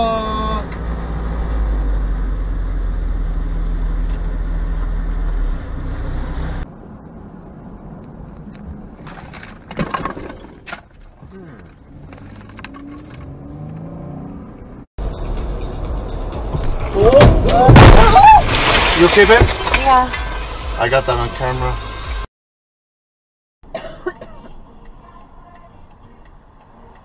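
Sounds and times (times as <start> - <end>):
car engine and road noise: 0.0 - 22.3, 23.6 - 27.0.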